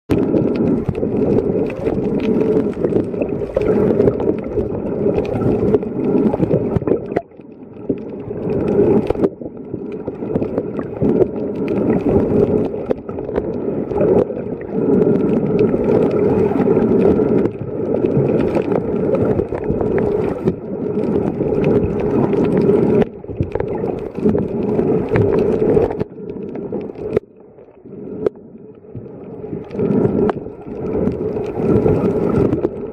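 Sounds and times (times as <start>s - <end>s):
muffled underwater sloshing and bubbling: 0.1s - 32.9s.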